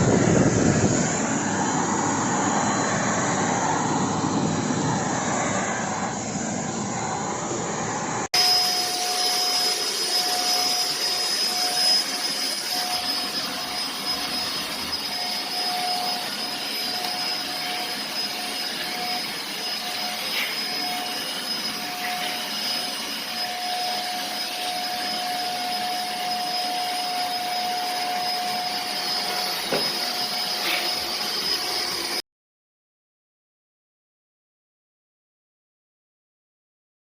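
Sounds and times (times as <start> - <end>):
handheld vacuum cleaner running: 0.0 - 32.2.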